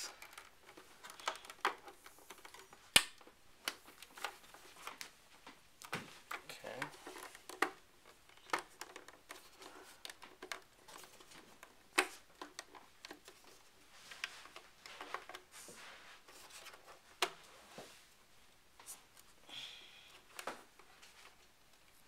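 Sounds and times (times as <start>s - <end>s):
hands rustling inside computer case: 0.0s - 19.4s, 20.2s - 22.0s.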